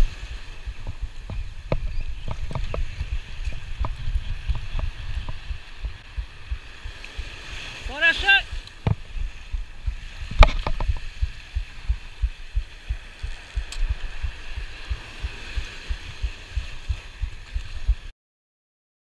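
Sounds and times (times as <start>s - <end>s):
surf wash hiss: 0.0s - 18.1s
muffled low thumps: 0.6s - 7.3s, 8.4s - 18.1s.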